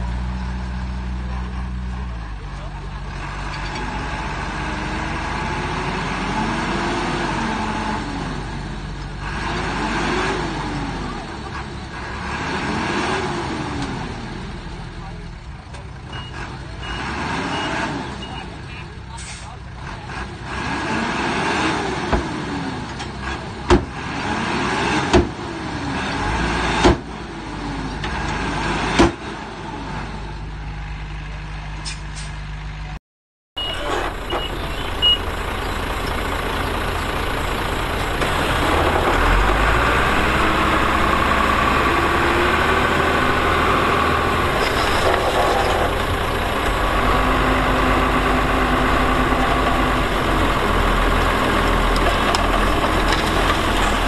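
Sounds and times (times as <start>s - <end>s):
heavy engine running steadily: 0.0s - 20.5s, 29.0s - 33.0s, 33.6s - 54.0s
diesel machinery engines revving: 0.0s - 33.0s, 33.6s - 54.0s.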